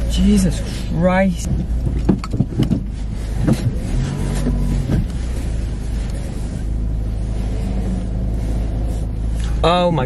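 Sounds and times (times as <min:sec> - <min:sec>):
car engine rumble: 0:00.0 - 0:10.0.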